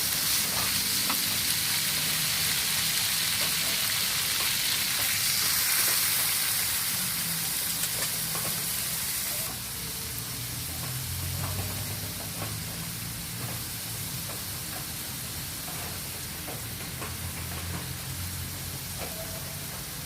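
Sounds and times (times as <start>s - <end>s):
food sizzling in oil: 0.0s - 16.8s.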